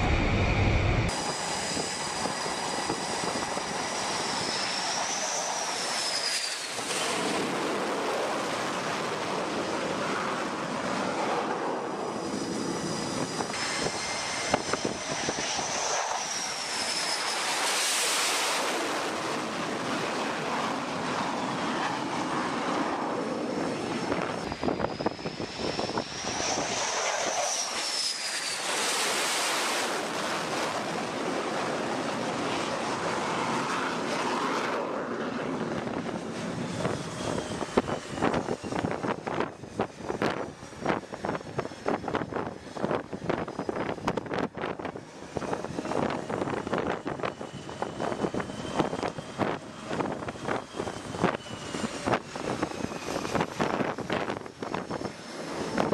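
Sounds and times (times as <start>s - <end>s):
jet engine whine: 0.0s - 55.9s.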